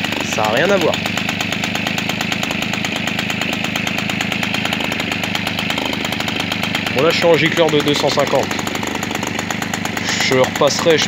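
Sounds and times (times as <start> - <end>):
moped engine idling: 0.0 - 11.0.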